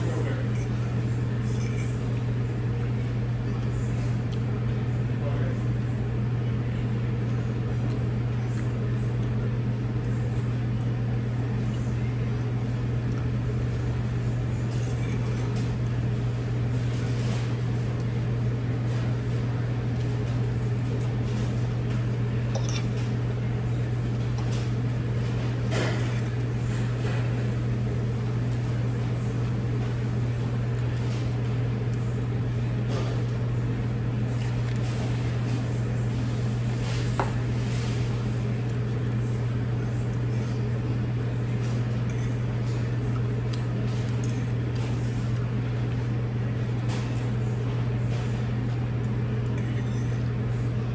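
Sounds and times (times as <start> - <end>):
low machine hum: 0.0 - 50.9.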